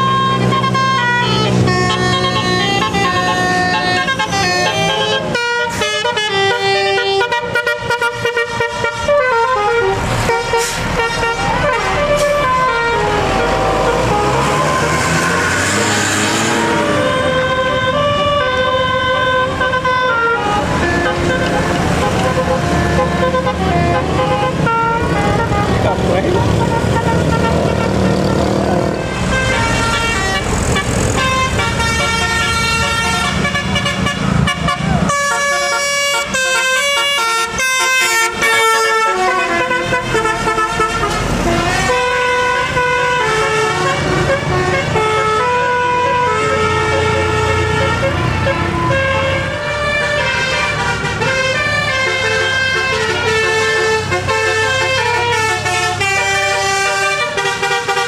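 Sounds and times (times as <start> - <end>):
bus engines running: 0.0 - 58.0
multi-tone bus horns: 0.0 - 58.0.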